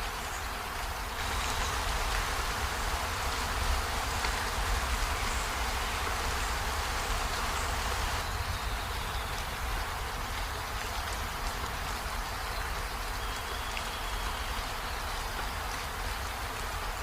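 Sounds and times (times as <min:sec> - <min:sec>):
faint raindrop ticks: 0:00.0 - 0:08.3, 0:09.0 - 0:17.0
steady rain hiss: 0:00.0 - 0:17.0.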